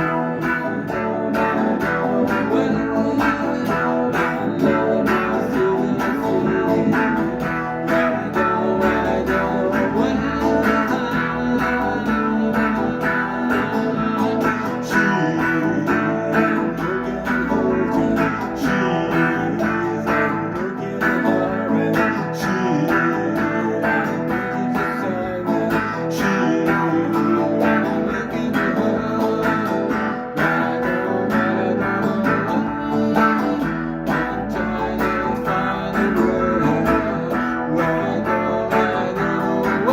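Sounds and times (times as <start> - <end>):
guitar plucked and strummed: 0.0 - 39.9.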